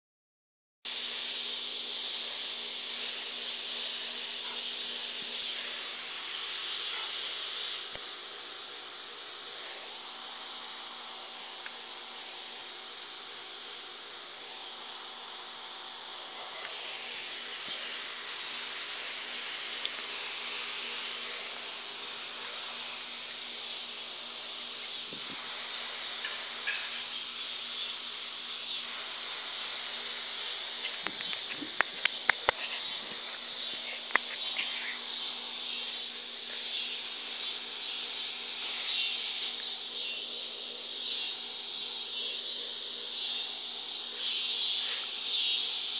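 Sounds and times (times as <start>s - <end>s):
insect chorus: 0.9s - 45.9s.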